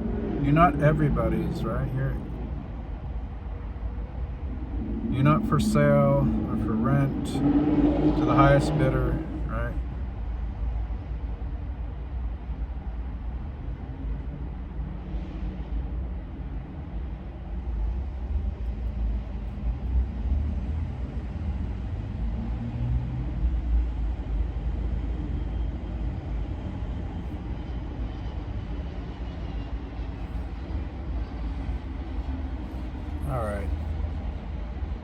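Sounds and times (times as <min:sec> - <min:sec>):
vehicle road and engine rumble: 0:00.0 - 0:35.0.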